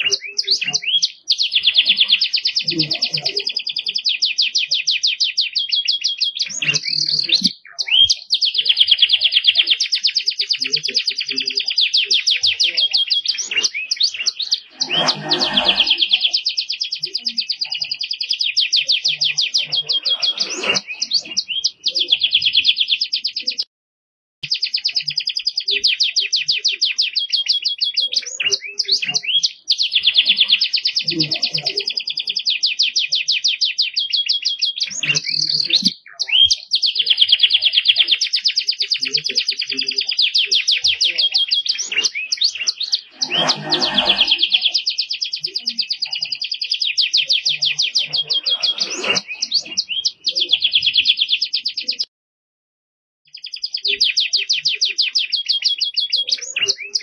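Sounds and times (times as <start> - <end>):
canary singing trills: 0.0 - 23.7, 24.4 - 52.1, 53.3 - 57.0.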